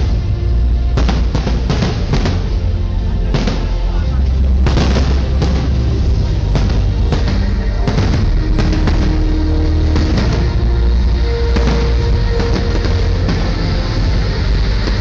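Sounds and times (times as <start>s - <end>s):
fireworks banging: 0.0s - 15.0s
loud music with heavy bass: 0.0s - 15.0s.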